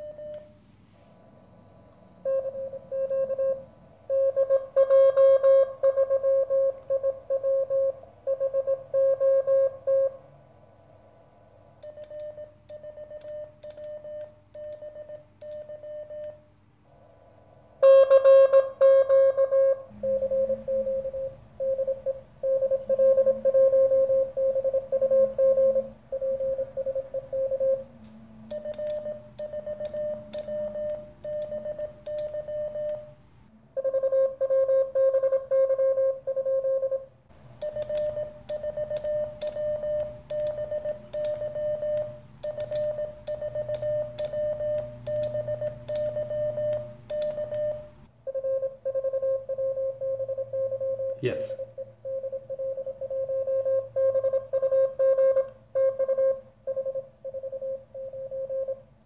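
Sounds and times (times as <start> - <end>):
morse code tones: 0.0 - 0.6, 2.2 - 10.2, 11.8 - 16.4, 17.8 - 59.0.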